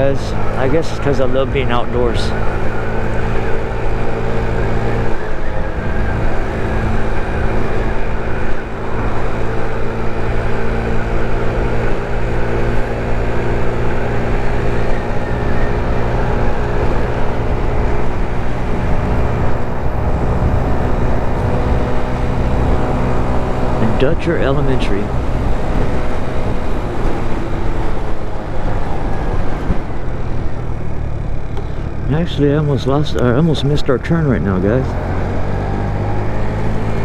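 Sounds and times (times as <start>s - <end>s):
wind rumbling on microphone: 0.0s - 32.2s
scooter engine running: 0.0s - 37.0s.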